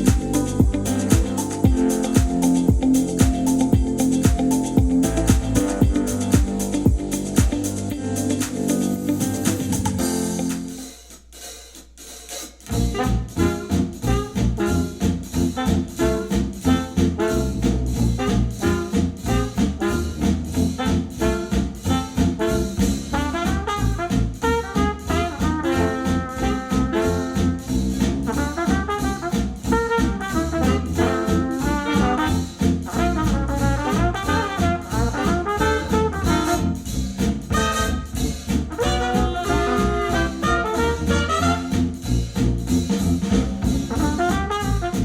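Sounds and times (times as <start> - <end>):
acoustic jazz with trumpet and trombone: 0.0 - 45.0.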